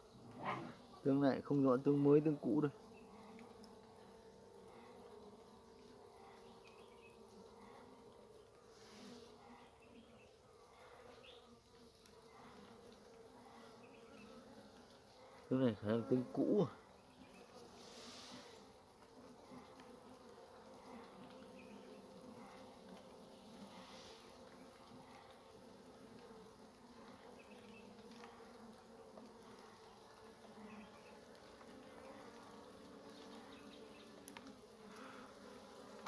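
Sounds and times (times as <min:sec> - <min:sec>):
honey bees buzzing: 0:00.0 - 0:36.0.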